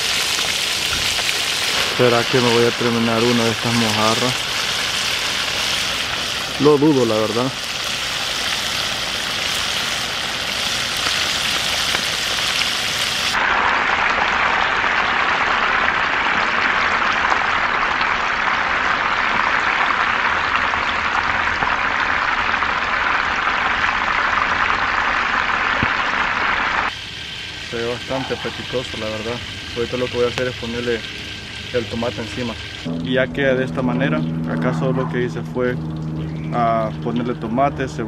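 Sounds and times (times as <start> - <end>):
fish deep-frying in sizzling oil: 0.0 - 32.9.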